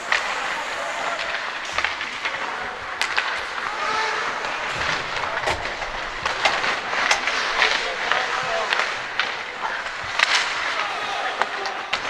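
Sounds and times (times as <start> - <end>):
skate blades scraping ice: 0.0 - 12.0
sticks and puck clacking: 0.0 - 12.0.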